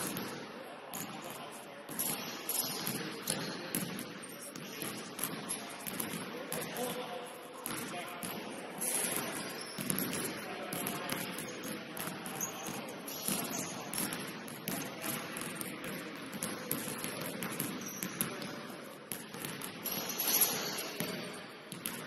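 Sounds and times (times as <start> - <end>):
noisy gym background: 0.0 - 22.0.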